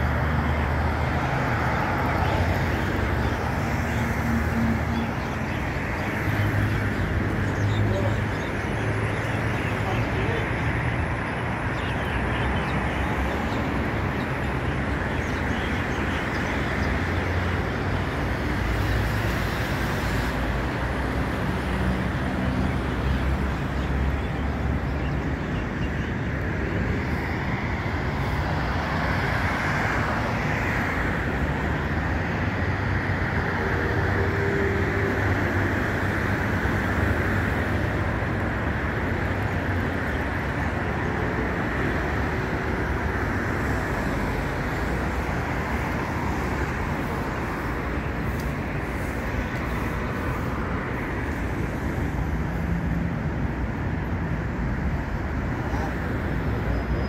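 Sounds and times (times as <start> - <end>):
passing cars rumbling: 0.0 - 57.0.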